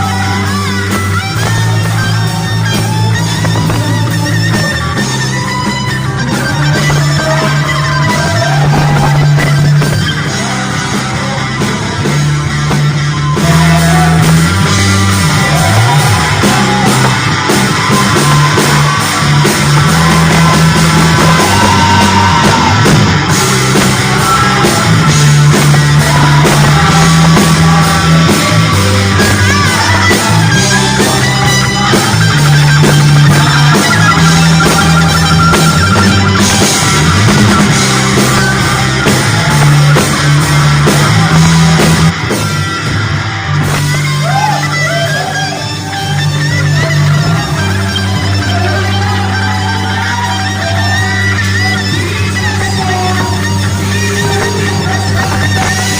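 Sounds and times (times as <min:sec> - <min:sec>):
lead guitar with bending notes: 0:00.0 - 0:55.9
sustained bass notes: 0:00.0 - 0:55.9.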